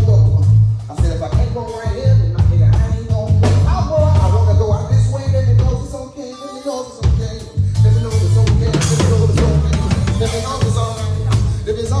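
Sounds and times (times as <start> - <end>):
bass drum and rimshots: 0.0 - 6.0, 7.0 - 12.0
heavy bass line: 0.0 - 6.0, 7.0 - 12.0
live band music: 0.0 - 12.0.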